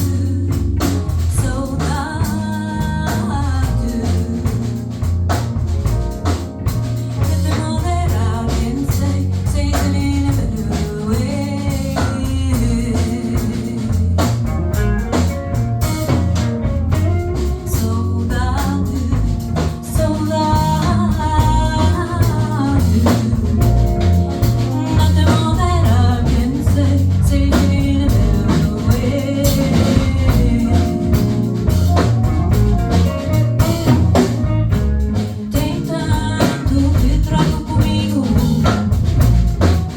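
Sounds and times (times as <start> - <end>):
person singing: 0.0 - 4.9, 7.1 - 15.4, 17.3 - 39.0
live band playing: 0.0 - 39.9.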